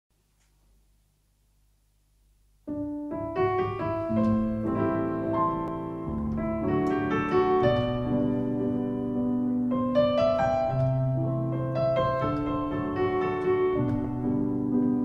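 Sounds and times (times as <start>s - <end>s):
solo piano playing: 2.6s - 15.0s.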